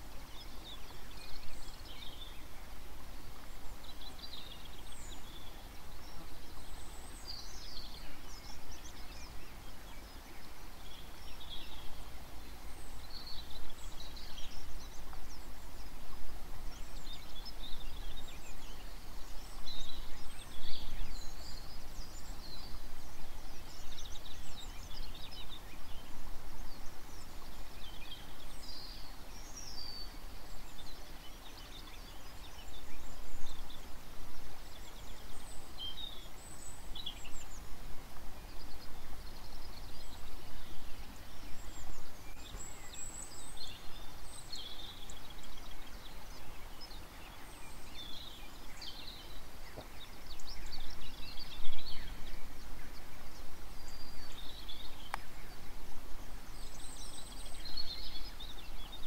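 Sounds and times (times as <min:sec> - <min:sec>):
outdoor background hiss: 0:00.0 - 0:59.0
songbirds chirping and trilling: 0:00.0 - 0:59.0.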